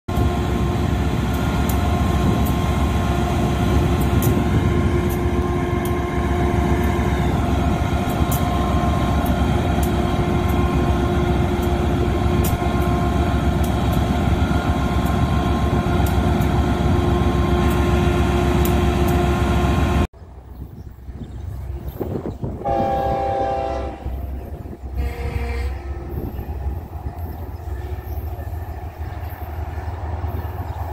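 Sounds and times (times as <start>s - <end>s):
diesel locomotive engine rumble: 0.1s - 30.9s.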